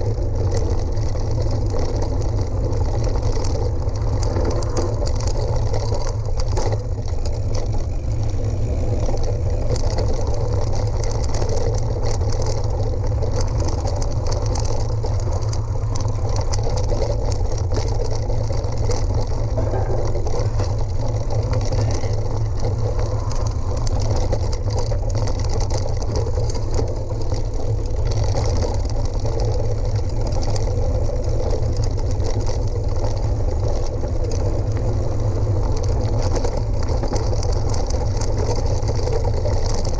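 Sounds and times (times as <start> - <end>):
tyres crunching on gravel: 0.0 - 39.9.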